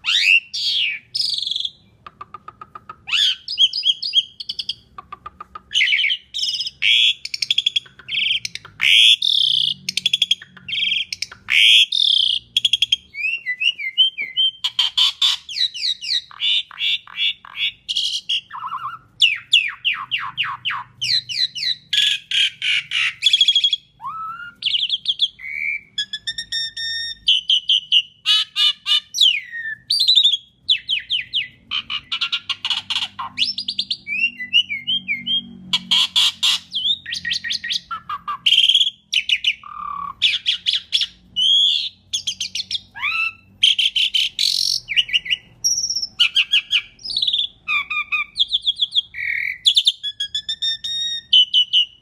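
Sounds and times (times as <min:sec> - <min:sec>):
starling singing: 0:00.0 - 0:52.0.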